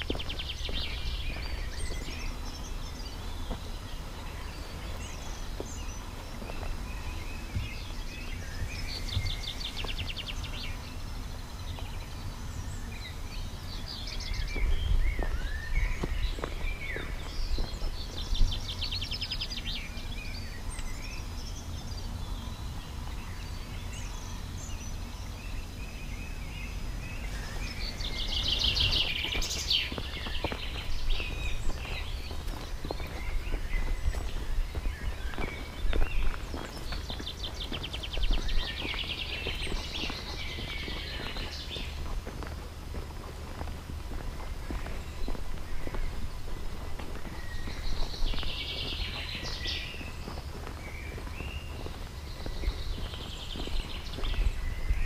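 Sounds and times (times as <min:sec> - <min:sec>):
bird chirps and calls: 0:00.0 - 0:43.4, 0:44.2 - 0:55.0
songbird rapid trill: 0:00.0 - 0:55.0.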